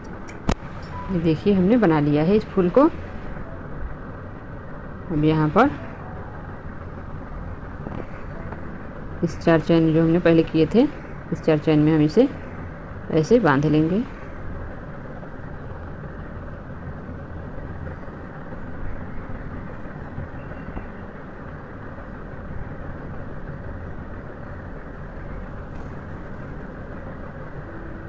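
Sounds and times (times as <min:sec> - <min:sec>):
low background rumble: 0:00.0 - 0:28.0.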